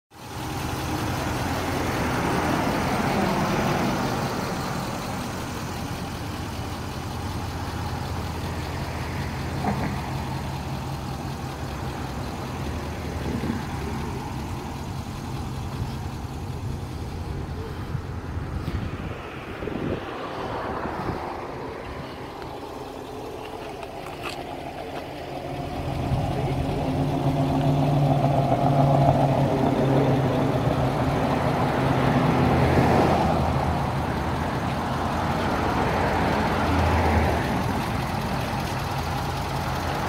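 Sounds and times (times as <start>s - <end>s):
diesel engine idling: 0.1s - 40.0s.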